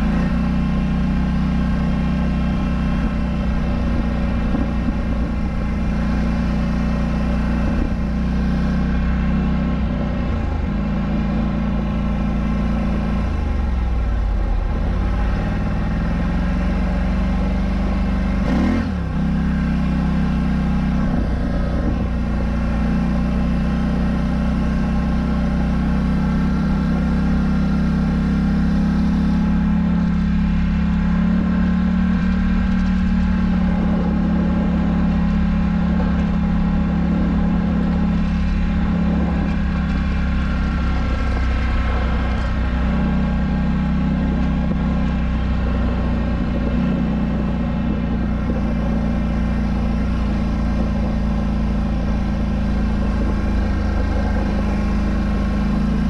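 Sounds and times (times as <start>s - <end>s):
atv engine running steadily: 0.0s - 56.0s.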